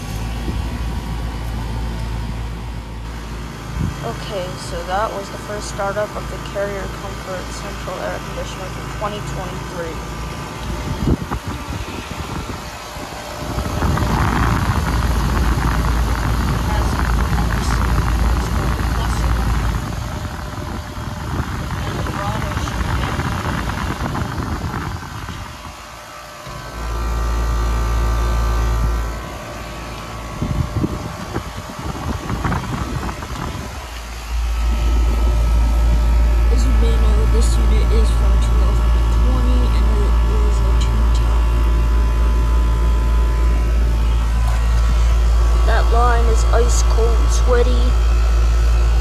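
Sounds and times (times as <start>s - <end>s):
air conditioner unit running: 0.0s - 49.0s
loud low rumble: 0.0s - 49.0s.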